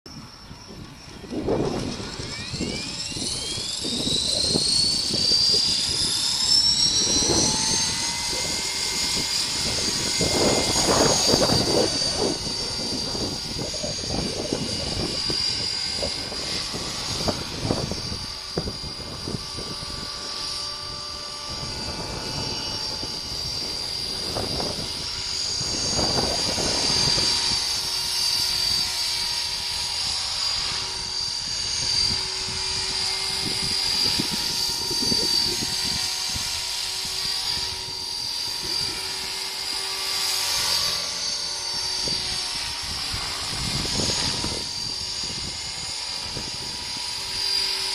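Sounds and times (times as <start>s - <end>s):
helicopter rotor: 0.1s - 47.9s
model helicopter motor whine: 0.1s - 47.9s
wind buffeting microphone: 0.1s - 47.9s.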